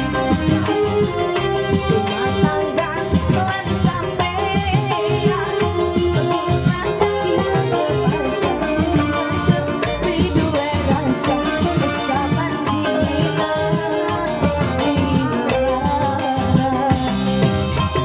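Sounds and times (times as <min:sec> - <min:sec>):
electronic keyboard: 0:00.0 - 0:18.0
steady drum beat: 0:00.0 - 0:18.0
woman singing into microphone: 0:00.0 - 0:18.0.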